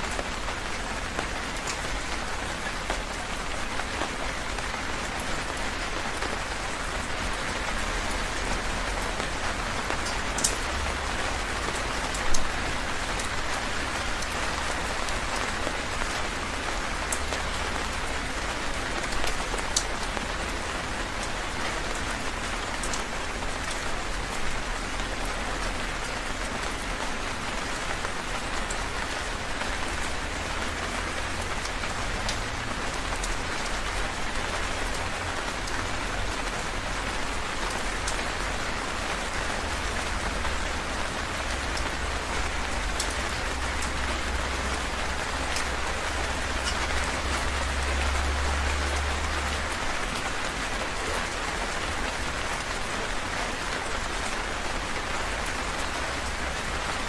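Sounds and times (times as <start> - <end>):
heavy rain: 0.0 - 57.0
raindrop splashes: 0.1 - 57.0.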